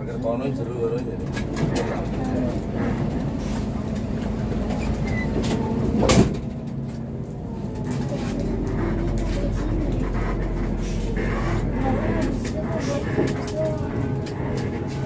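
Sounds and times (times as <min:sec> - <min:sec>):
coach engine and road rumble: 0:00.0 - 0:15.0.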